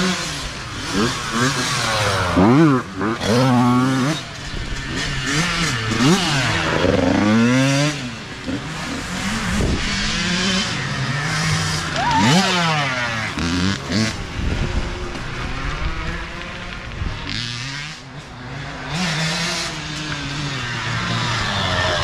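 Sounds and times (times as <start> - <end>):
dirt bike engines revving: 0.0 - 22.0
dirt bike passing close: 0.0 - 22.0.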